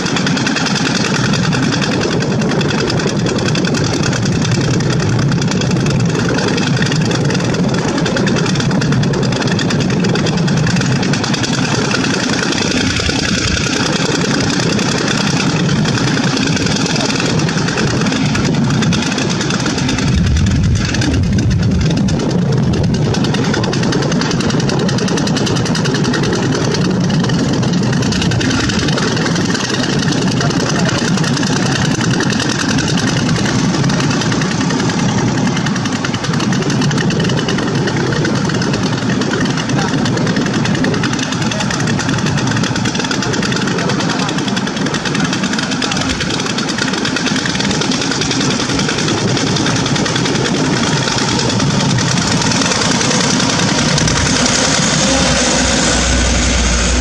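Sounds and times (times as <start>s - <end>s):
truck diesel engine under load: 0.0s - 57.0s.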